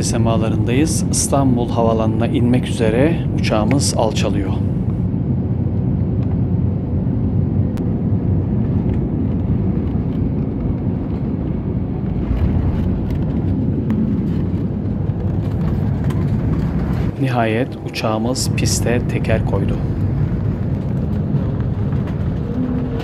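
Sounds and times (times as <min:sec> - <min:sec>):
jet engines rumbling: 0:00.0 - 0:23.0
plane touching down on runway: 0:00.0 - 0:23.0.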